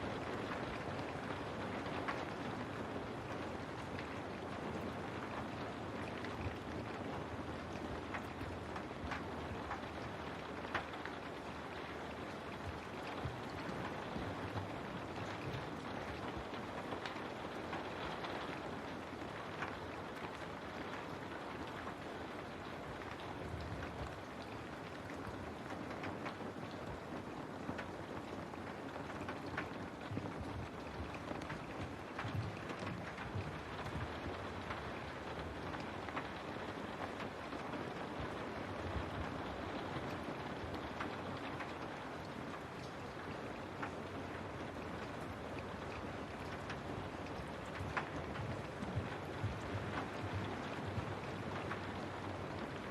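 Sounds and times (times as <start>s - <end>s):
rain on a window: 0.0s - 52.9s
raindrops ticking on glass: 0.0s - 52.9s.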